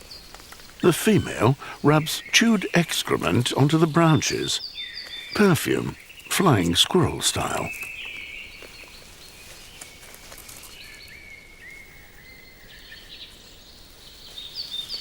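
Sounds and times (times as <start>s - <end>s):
faint high chirping calls: 0.0s - 15.0s.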